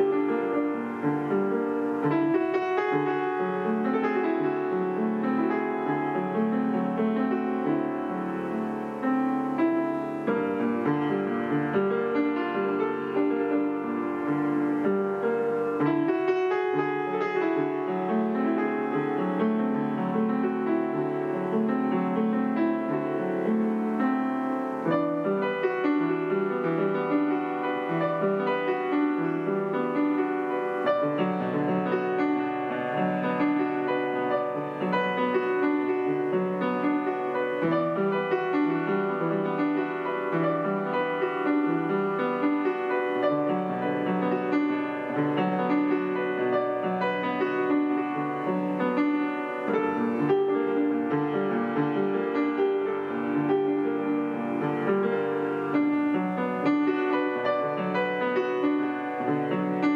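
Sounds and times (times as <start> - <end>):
solo piano playing: 0.0 - 59.9.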